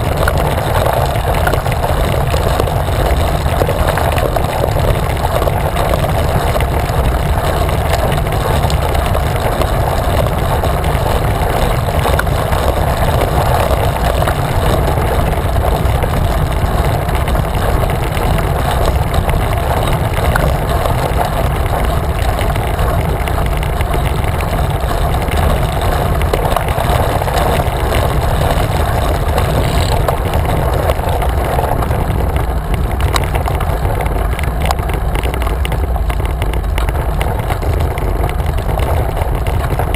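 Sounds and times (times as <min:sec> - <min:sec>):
bicycle tyre noise on asphalt: 0:00.0 - 0:39.9
wind buffeting microphone: 0:00.0 - 0:39.9.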